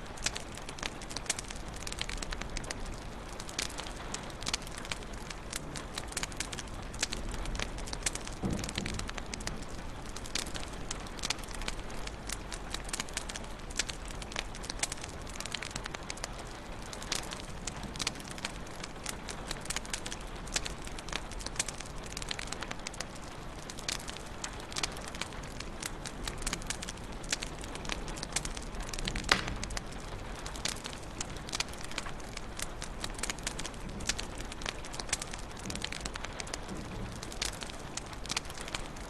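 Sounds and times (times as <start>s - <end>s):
soft hiss of fire: 0.0s - 39.0s
wood fire crackling: 0.0s - 39.0s.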